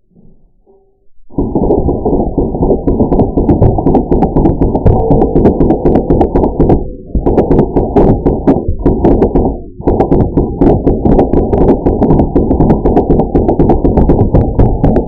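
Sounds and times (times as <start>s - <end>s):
muffled percussive background music: 1.3s - 15.0s
sharp clicks: 1.3s - 15.0s.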